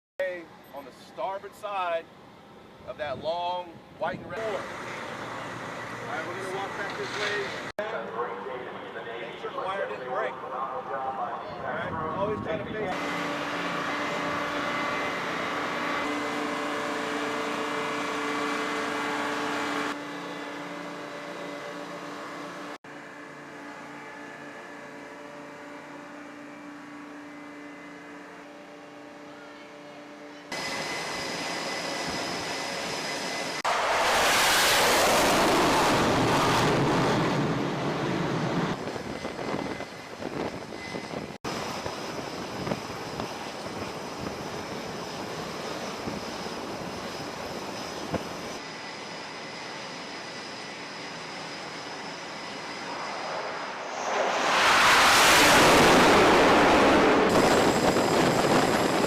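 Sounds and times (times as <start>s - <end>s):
jet engine whine: 0.3s - 59.0s
jet engine roar: 0.4s - 28.9s, 30.5s - 59.0s.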